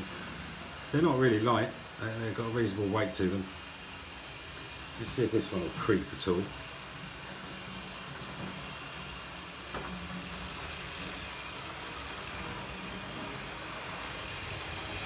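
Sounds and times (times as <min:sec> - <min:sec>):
model train motor whirring: 0:00.0 - 0:15.0.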